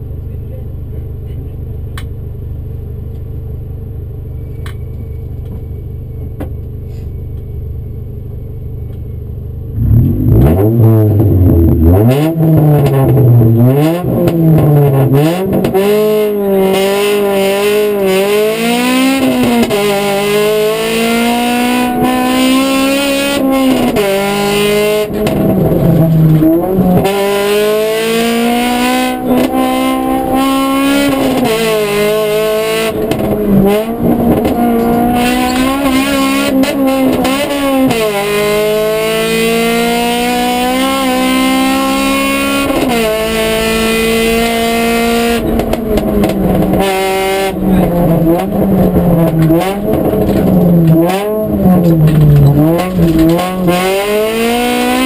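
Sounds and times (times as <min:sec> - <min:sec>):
rally car engine accelerating: 0:08.5 - 0:55.0.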